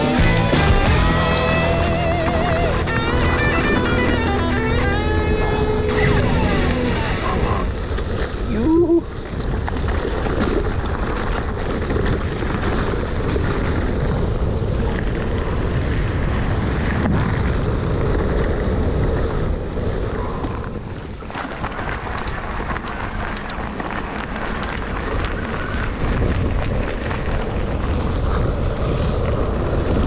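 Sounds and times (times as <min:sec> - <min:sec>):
bike rattling over rough trail: 0:00.0 - 0:30.0
wind on camera microphone: 0:02.1 - 0:30.0.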